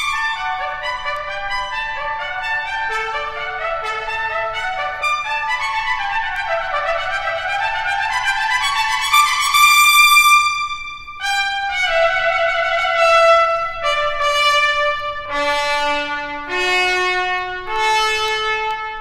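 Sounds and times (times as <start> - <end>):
trumpet long held notes: 0.0 - 19.0.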